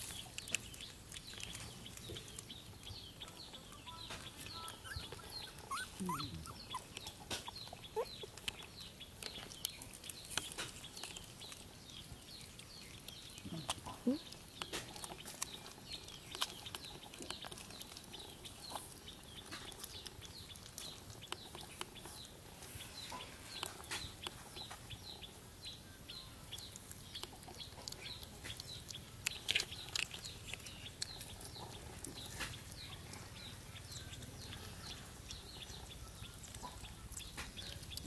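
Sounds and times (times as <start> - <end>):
young animals peeping: 0.0 - 38.0.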